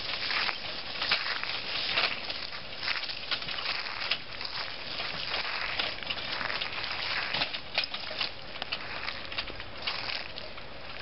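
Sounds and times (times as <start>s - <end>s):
footsteps crunching dry leaves: 0.0s - 11.0s
wheels rolling over twigs: 0.0s - 11.0s.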